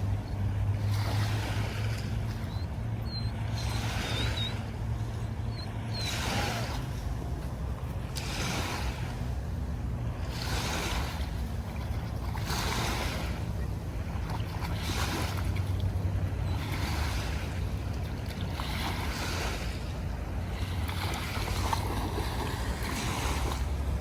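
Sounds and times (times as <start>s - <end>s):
small waves washing: 0.0s - 24.0s.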